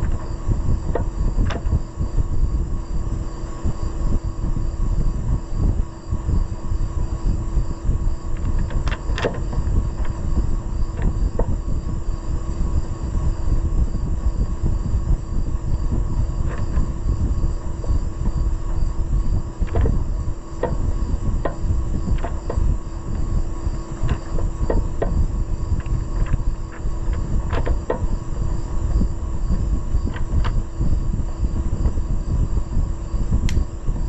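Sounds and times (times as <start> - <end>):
constant hum: 0.0 - 34.0
steady low rumble: 0.0 - 34.0.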